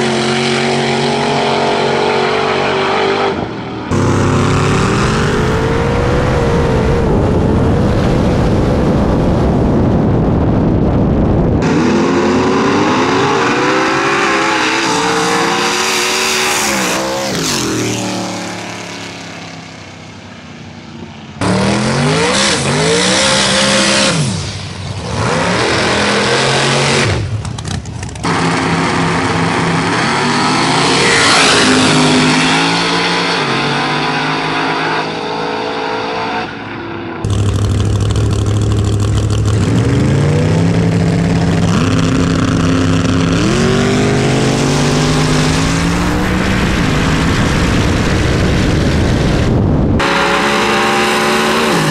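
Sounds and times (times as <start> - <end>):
car engines revving and accelerating: 0.0 - 51.9.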